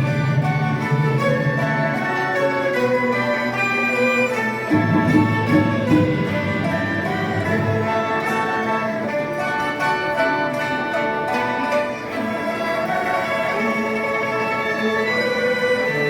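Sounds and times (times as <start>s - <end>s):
bowed string melody: 0.0s - 16.0s
traditional orchestra playing slowly: 0.0s - 16.0s.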